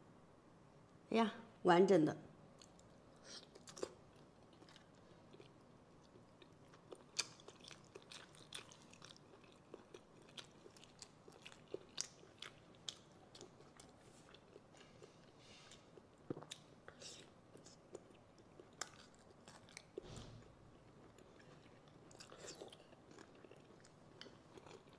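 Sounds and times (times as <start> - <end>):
chewing and biting: 2.6 - 24.9.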